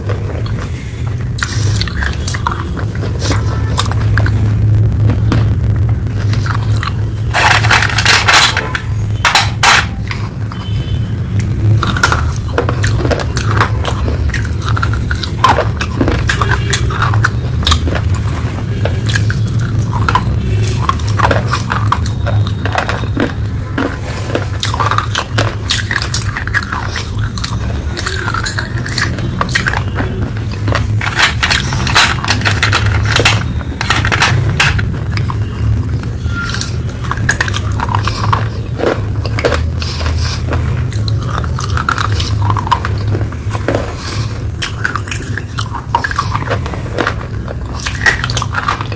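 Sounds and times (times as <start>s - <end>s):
crunching and chewing clay: 0.0s - 48.9s
steady low hum: 0.0s - 48.9s.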